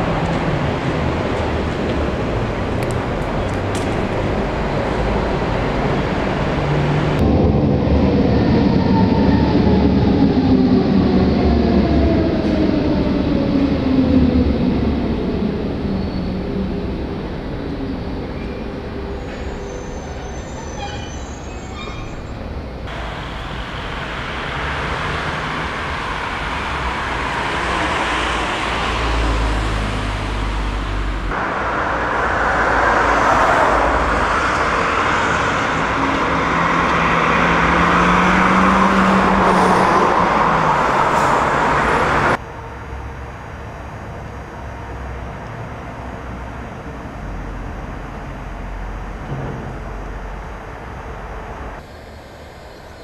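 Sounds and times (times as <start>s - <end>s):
motorway traffic rush: 0.0s - 53.0s.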